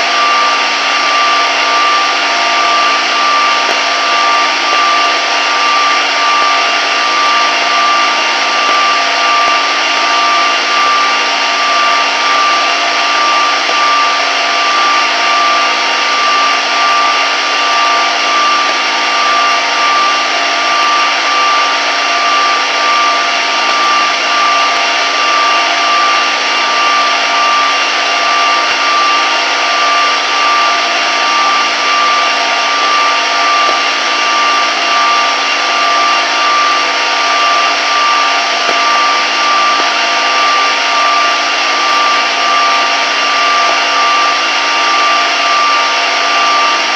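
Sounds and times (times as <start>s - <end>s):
radio static hiss: 0.0s - 46.9s
steady whistle tone: 0.0s - 46.9s.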